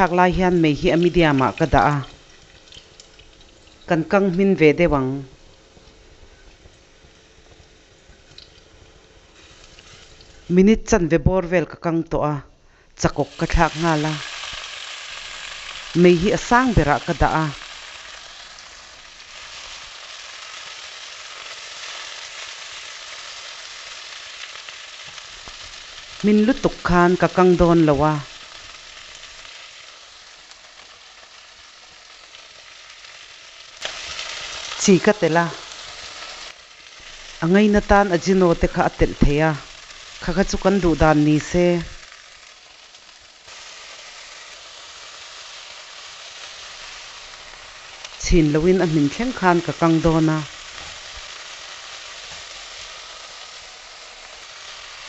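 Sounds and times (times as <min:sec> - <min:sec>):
vegetables sizzling in pot: 0:00.0 - 0:11.8, 0:12.7 - 0:55.0.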